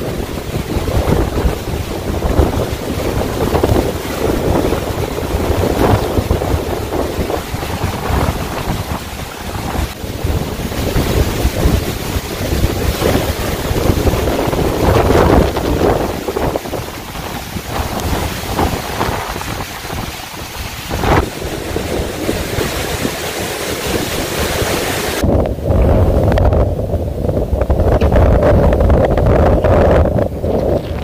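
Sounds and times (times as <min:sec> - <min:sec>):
waterfall roaring: 0:00.0 - 0:31.0
wind buffeting microphone: 0:00.0 - 0:31.0.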